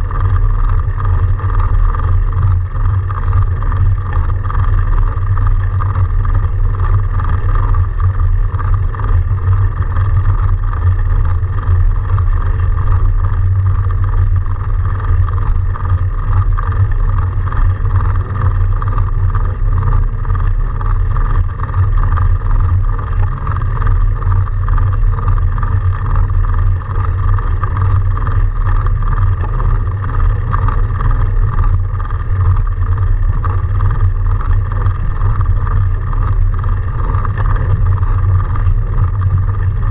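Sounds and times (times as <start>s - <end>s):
bicycle tyres rumbling in snow: 0.0s - 39.9s
electric motor whine: 0.0s - 39.9s.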